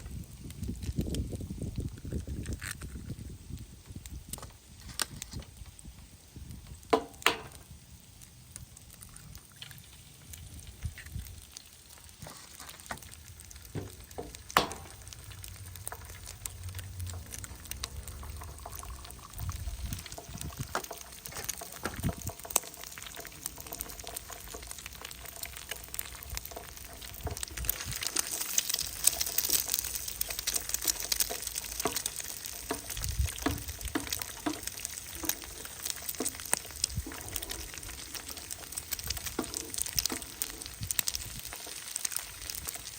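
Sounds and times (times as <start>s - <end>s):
food sizzling in a frying pan: 0.0s - 42.9s.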